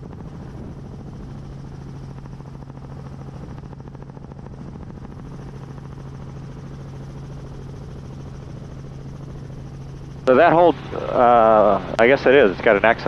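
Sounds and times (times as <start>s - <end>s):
helicopter rotor and engine drone: 0.0s - 13.0s.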